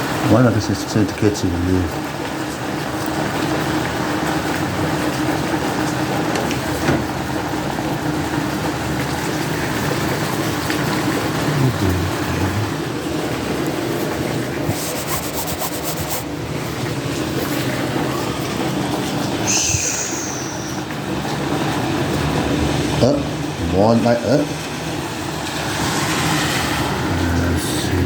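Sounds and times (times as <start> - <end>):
hail pelting: 0.0 - 28.0
heavy rain: 0.0 - 28.0.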